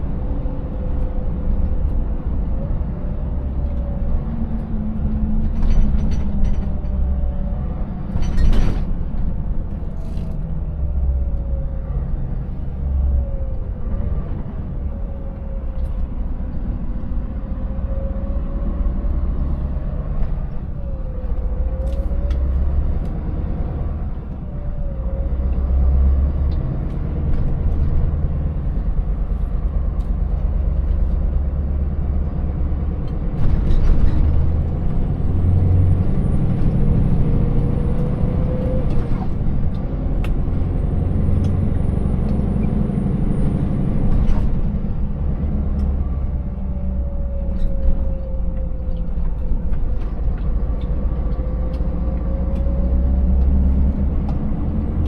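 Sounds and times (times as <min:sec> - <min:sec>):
road noise: 0:00.0 - 0:55.0
truck engine rumbling: 0:00.0 - 0:55.0.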